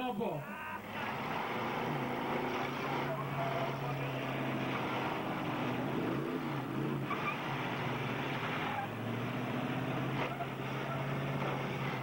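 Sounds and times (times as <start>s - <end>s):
car engines revving: 0.8s - 12.0s.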